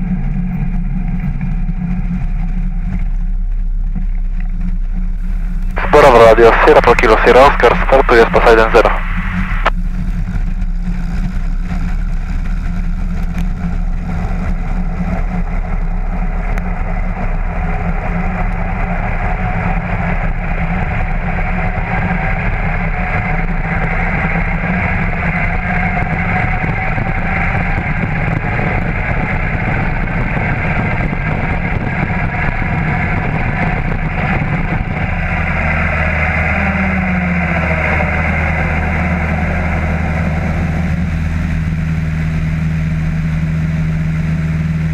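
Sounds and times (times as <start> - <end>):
small plane engine and propeller: 0.0 - 44.9.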